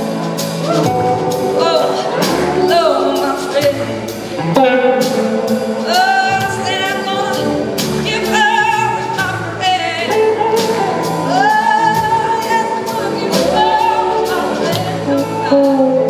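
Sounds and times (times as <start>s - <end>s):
drums and cymbals: 0.0s - 16.0s
electric guitar: 0.0s - 16.0s
woman singing with vibrato: 1.5s - 4.3s, 5.0s - 16.0s.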